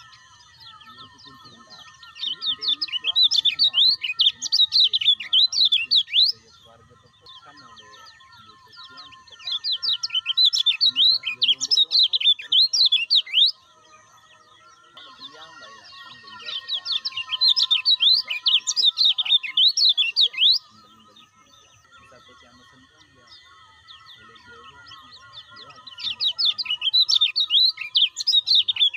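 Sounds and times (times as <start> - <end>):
bird singing high sliding chirps: 0.0 - 28.9.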